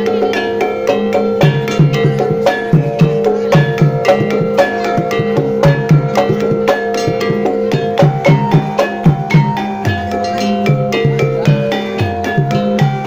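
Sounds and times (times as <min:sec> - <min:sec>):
gamelan playing: 0:00.0 - 0:13.0.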